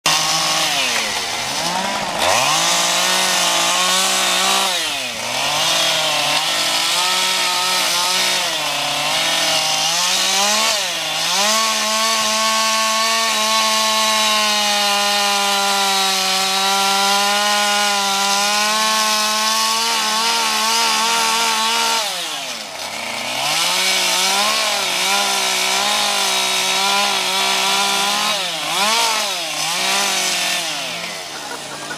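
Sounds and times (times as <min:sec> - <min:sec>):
chainsaw carving wood: 0:00.0 - 0:31.9.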